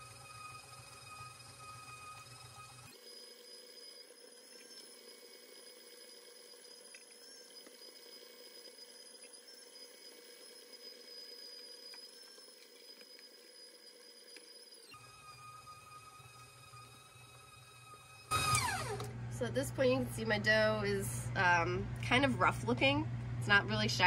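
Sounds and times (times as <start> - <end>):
stand mixer motor whine: 0.0 - 20.9.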